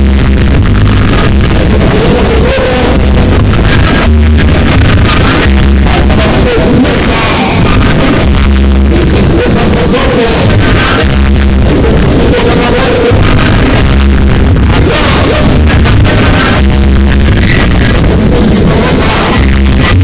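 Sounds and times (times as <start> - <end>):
loud music with heavy bass: 0.0 - 20.0.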